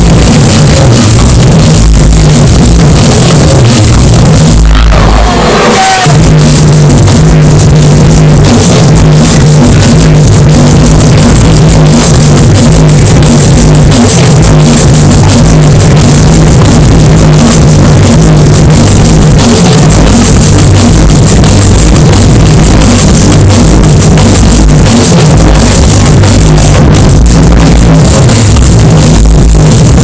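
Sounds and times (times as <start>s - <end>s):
drum and bass music: 0.0s - 30.0s.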